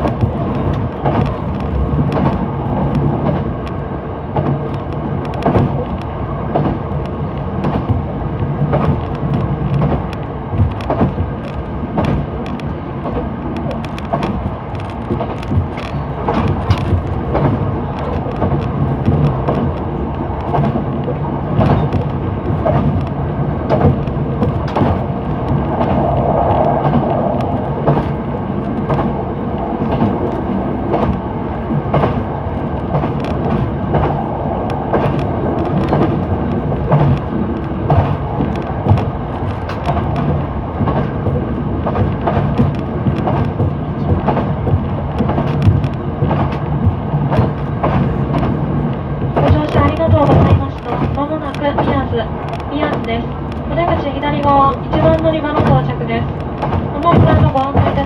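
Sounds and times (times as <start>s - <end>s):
train clicks and clatter: 0.0s - 58.0s
train wheels rumbling on rail: 0.0s - 58.0s.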